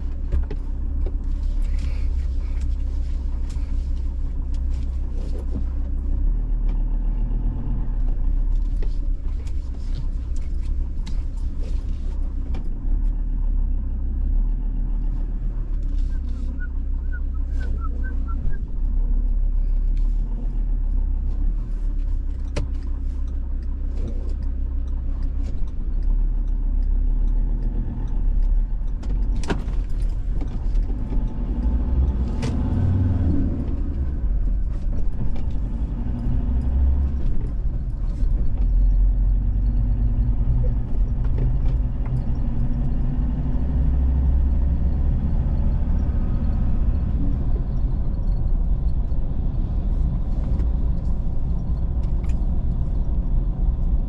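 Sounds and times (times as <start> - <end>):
vehicle engine and tyres rumbling: 0.0 - 54.0.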